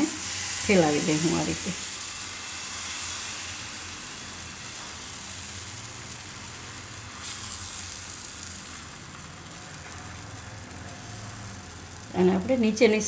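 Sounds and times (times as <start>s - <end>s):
pancake batter sizzling on a griddle: 0.0s - 13.0s.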